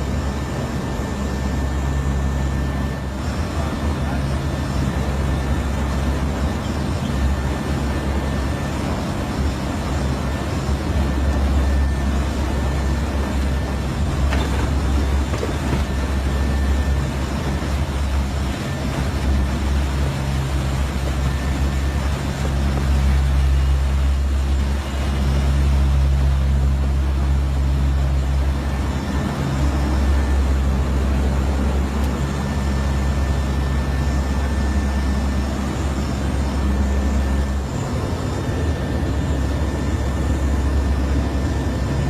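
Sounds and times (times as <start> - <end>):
turboprop engines droning: 0.0 - 42.0.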